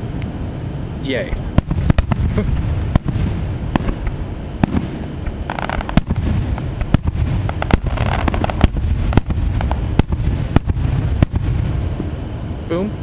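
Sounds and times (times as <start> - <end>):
low rumble: 0.0 - 13.0
firework crackling: 1.0 - 12.3
firework shells bursting: 1.4 - 12.1.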